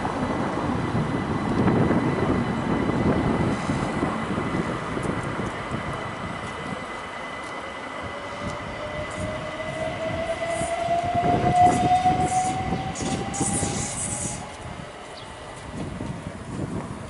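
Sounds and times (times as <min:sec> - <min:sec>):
rising whine: 0:00.0 - 0:17.0
train passing: 0:00.0 - 0:17.0.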